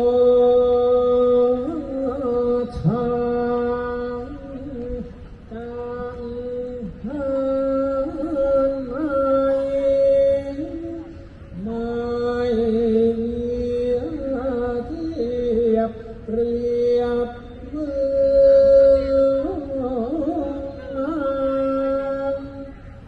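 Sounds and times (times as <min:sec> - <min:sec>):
person chanting long held notes: 0:00.0 - 0:23.0.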